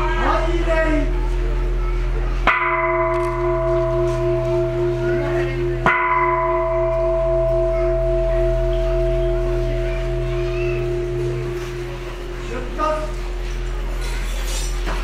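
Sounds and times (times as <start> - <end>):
steady low hum: 0.0 - 15.0
temple bell ringing: 0.0 - 15.0.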